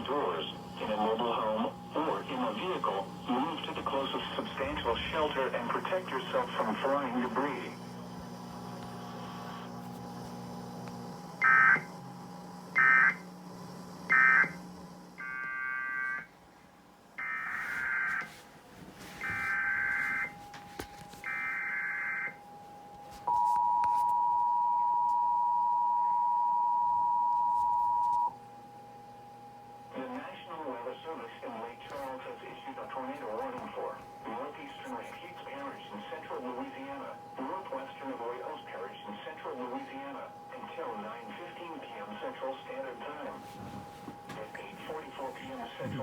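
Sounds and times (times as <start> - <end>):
steady warning alarm tone: 0.0 - 16.5, 17.1 - 46.0.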